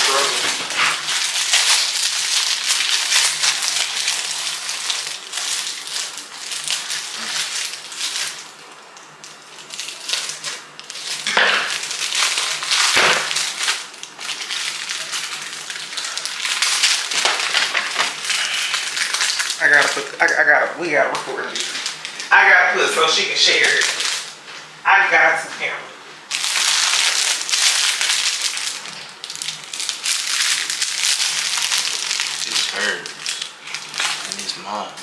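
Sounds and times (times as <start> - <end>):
plastic wrapper crinkling: 0.0 - 24.5, 26.3 - 35.0.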